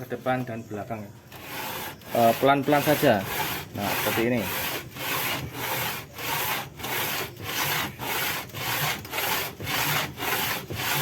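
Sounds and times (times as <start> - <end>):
metal rasping on sandpaper: 1.3 - 11.0.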